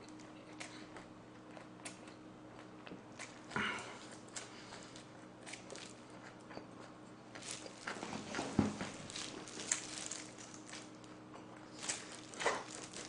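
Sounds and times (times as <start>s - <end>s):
chewing and lip smacking: 0.0s - 13.0s.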